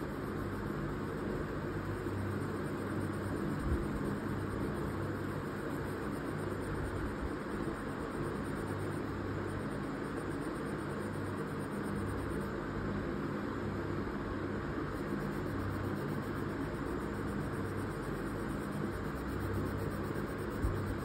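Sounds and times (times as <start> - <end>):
background hiss: 0.0 - 21.0
faint low hum: 0.0 - 21.0.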